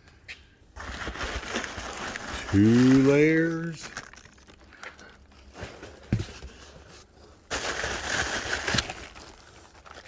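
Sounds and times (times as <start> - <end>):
packing padding crinkling: 0.8 - 10.0.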